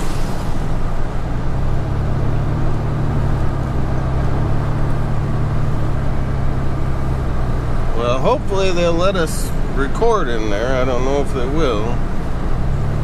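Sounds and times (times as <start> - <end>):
low engine drone: 0.0 - 13.0
road and tyre noise: 0.0 - 13.0.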